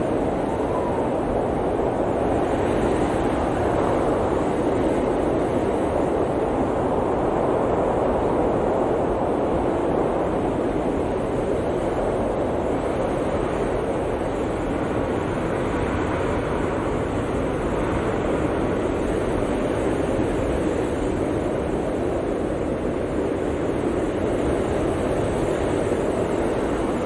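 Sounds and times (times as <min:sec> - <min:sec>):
blizzard wind blowing: 0:00.0 - 0:27.0.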